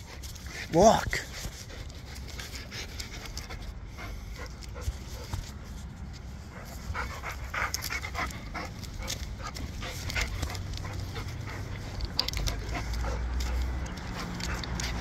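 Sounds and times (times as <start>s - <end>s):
dog panting: 0.0s - 15.0s
steady low rumble: 1.5s - 15.0s.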